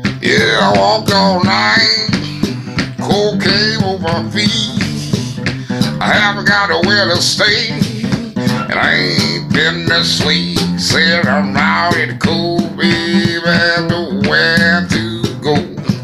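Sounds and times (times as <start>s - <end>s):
acoustic blues guitar: 0.0s - 16.0s
man singing: 0.0s - 16.0s.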